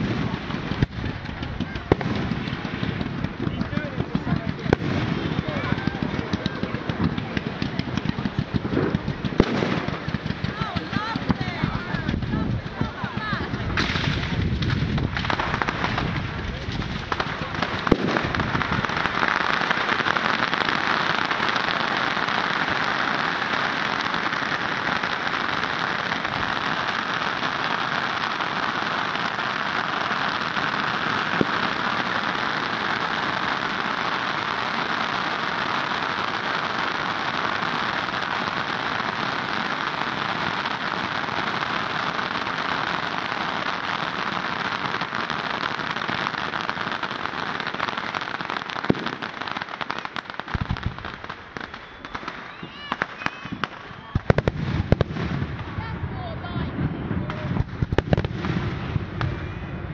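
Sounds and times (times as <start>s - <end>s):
fireworks crackling and hissing: 0.0s - 59.9s.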